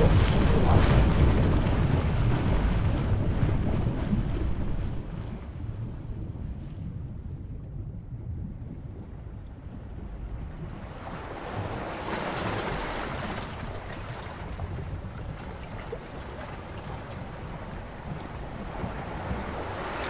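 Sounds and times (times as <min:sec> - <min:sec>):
sea waves washing over rocks: 0:00.0 - 0:06.3, 0:09.5 - 0:20.0
steady low rumble: 0:00.0 - 0:12.0, 0:12.6 - 0:20.0.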